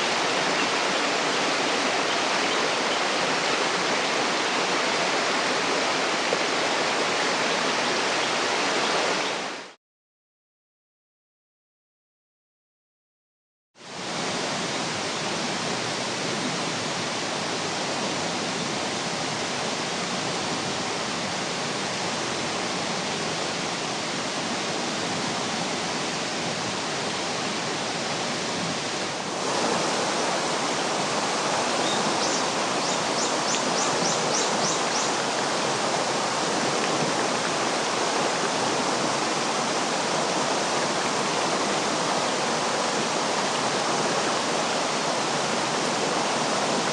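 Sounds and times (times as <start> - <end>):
river rushing over rapids: 0.0 - 9.8, 13.8 - 46.9.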